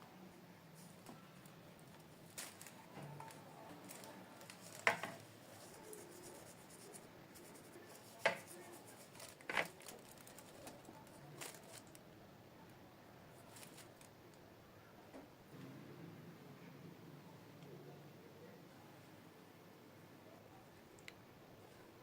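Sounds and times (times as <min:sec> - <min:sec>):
faint room hiss: 0:00.0 - 0:22.0.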